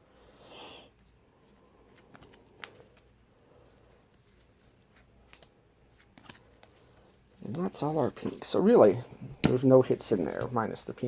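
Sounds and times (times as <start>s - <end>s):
trading cards rustling: 1.0s - 11.0s.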